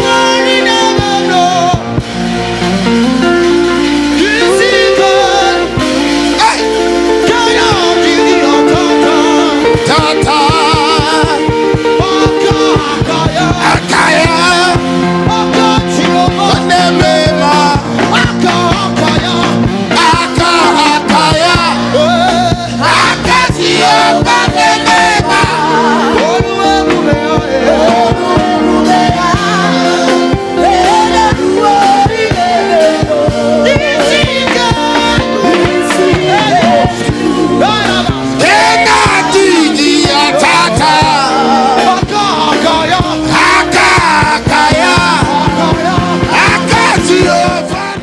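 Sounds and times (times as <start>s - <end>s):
person singing: 0.0s - 2.6s, 3.3s - 48.0s
band playing: 0.0s - 48.0s
drums keeping steady beat: 0.0s - 48.0s.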